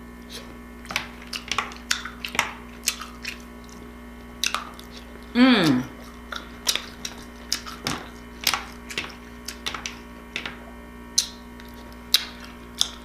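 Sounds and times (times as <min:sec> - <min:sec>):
steady low hum: 0:00.0 - 0:13.0
eating clicks and smacks: 0:00.8 - 0:10.6, 0:11.2 - 0:13.0.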